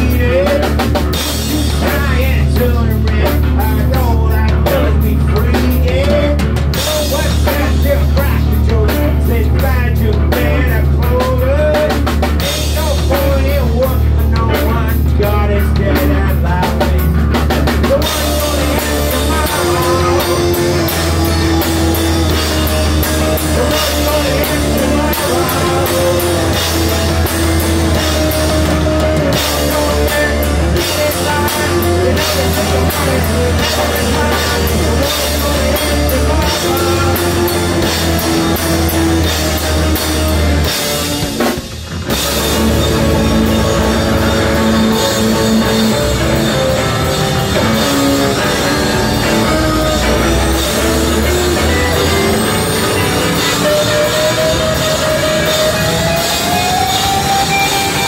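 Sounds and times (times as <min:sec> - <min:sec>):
man singing: 0:00.0 - 0:41.0, 0:42.4 - 0:58.0
drum kit: 0:00.0 - 0:58.0
electric guitars: 0:00.0 - 0:58.0.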